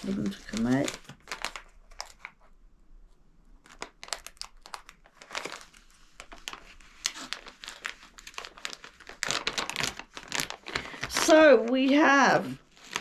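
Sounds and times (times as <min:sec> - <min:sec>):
plastic bag crinkling: 0:00.0 - 0:02.5, 0:03.6 - 0:13.0.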